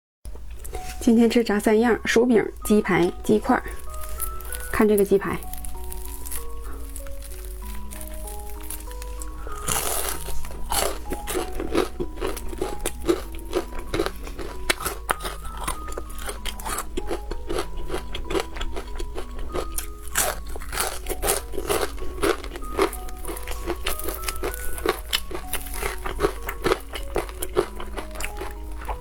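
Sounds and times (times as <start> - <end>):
light background music: 0.3 - 29.0
fried chicken crunching when chewed: 3.6 - 29.0.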